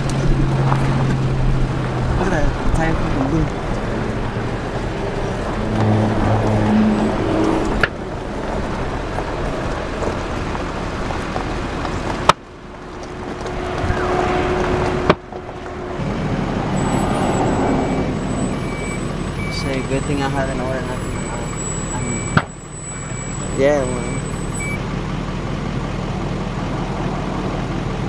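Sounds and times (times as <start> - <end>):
outdoor noise: 0.0 - 28.0
vehicle engines idling in traffic: 0.0 - 28.0.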